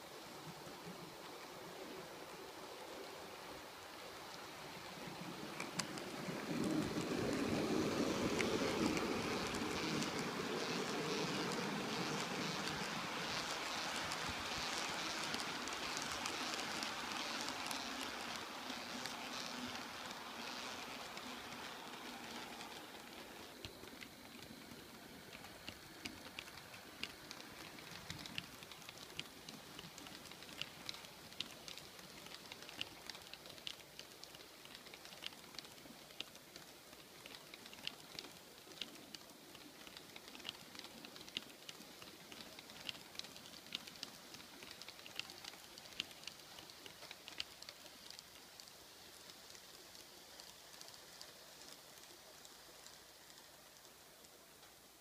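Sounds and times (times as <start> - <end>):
faint rolling hiss: 0.0 - 55.0.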